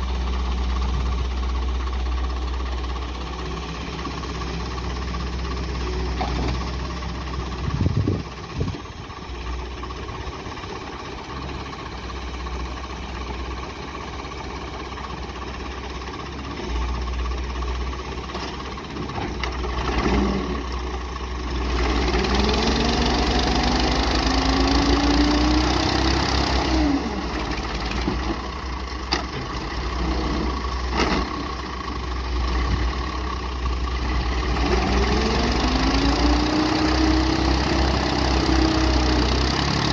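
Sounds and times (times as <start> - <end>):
tractor diesel engine revving: 0.0 - 39.9.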